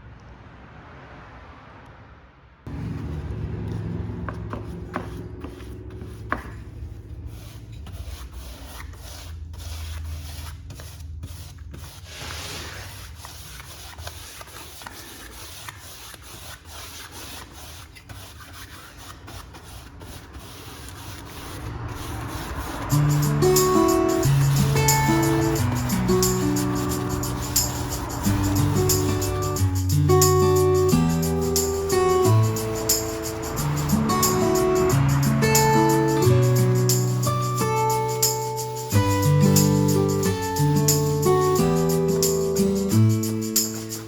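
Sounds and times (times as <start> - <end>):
wood being sanded: 4.5 - 44.0.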